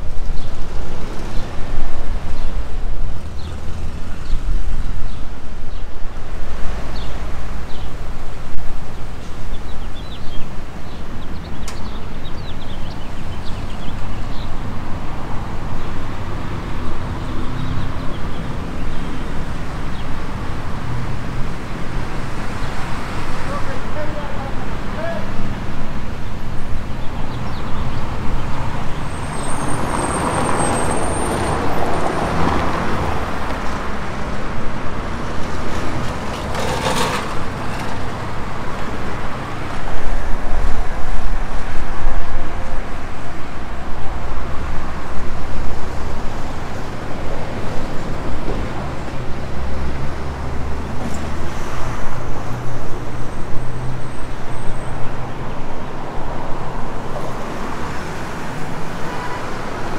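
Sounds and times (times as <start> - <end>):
street traffic passing: 0.0 - 59.9.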